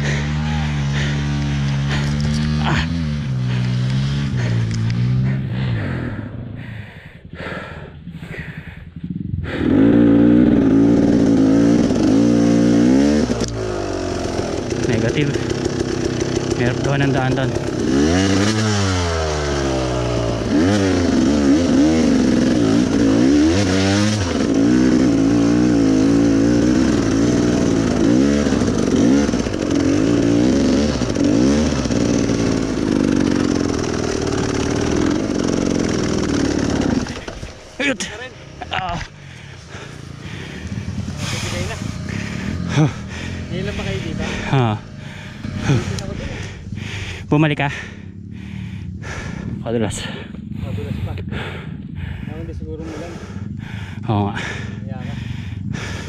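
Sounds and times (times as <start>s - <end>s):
motorcycle engine revving: 0.0s - 6.6s, 8.9s - 56.0s.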